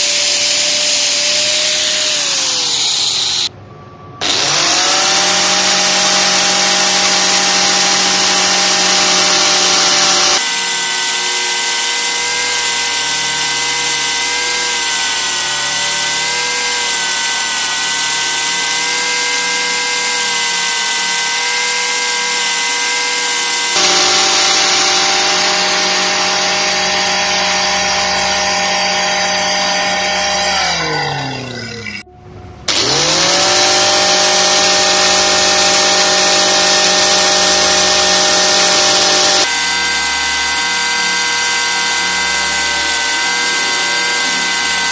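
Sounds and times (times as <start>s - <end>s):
disc sander motor humming: 4.2s - 32.0s, 32.7s - 44.9s.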